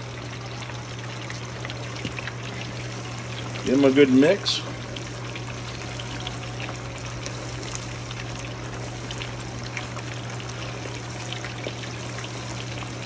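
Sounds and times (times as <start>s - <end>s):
oil sizzling and popping: 0.0s - 13.0s.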